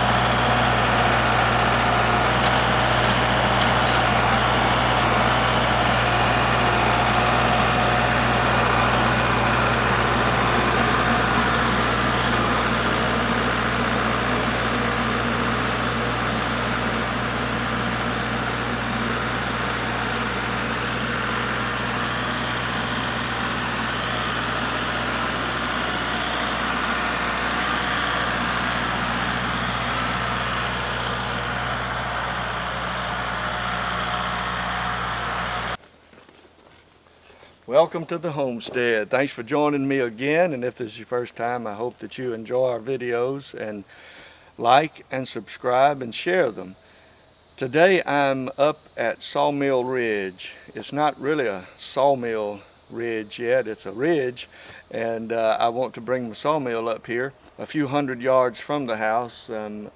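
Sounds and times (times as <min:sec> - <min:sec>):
tractor diesel engine running: 0:00.0 - 0:35.9, 0:37.8 - 0:59.9.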